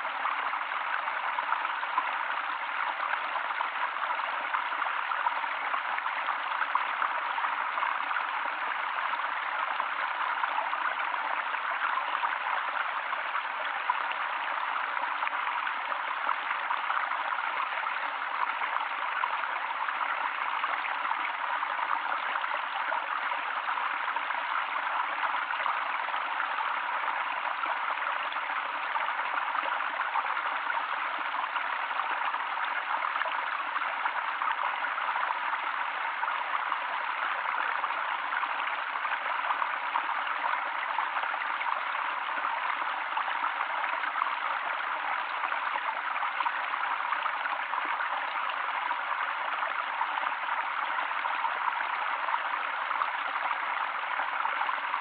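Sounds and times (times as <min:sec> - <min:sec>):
stream water spilling over log: 0:00.0 - 0:55.0.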